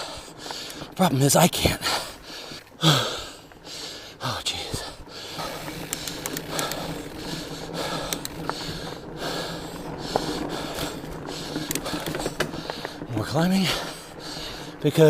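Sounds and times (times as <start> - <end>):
person breathing hard: 0.0 - 1.0, 1.8 - 14.8
bike ticking: 0.0 - 15.0.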